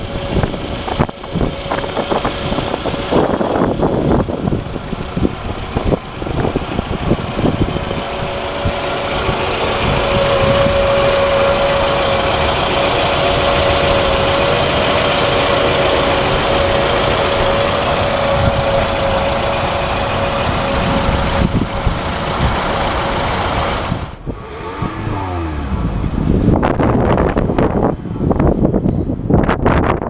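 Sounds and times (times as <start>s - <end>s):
steady whine: 0.0s - 28.0s
car engine idling: 0.0s - 29.6s
wind noise on microphone: 0.0s - 30.0s.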